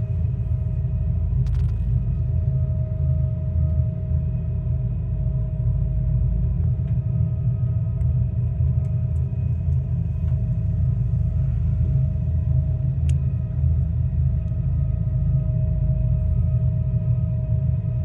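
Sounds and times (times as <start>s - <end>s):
funicular car rumble and whine: 0.0s - 18.0s.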